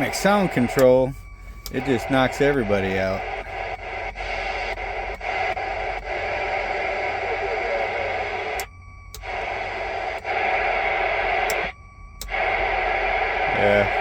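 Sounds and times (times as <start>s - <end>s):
radio click: 0.0s - 12.6s
radio static hissing: 0.0s - 14.0s.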